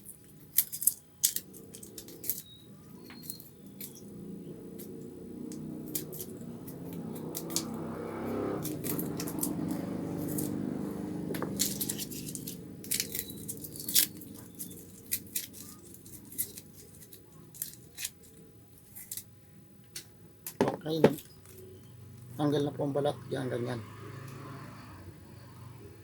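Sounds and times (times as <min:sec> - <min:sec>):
garlic skins crackling: 0:00.0 - 0:22.5.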